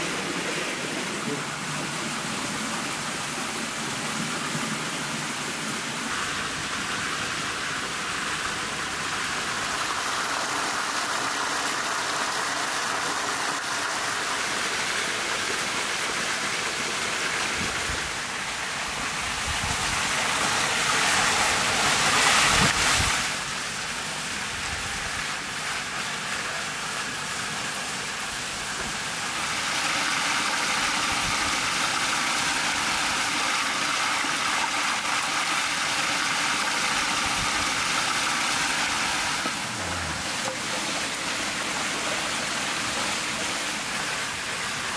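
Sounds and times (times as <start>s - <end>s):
rushing stream water: 0.0s - 44.9s
water wheel splashing: 0.0s - 44.9s.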